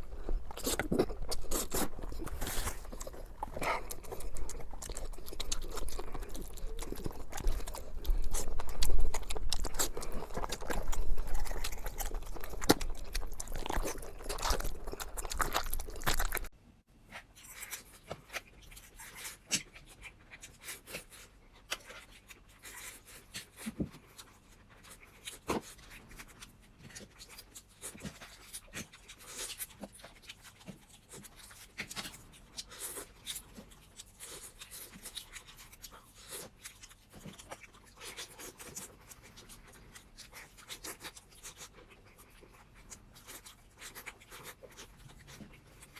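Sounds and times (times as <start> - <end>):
chewing and crunching: 0.0 - 45.9.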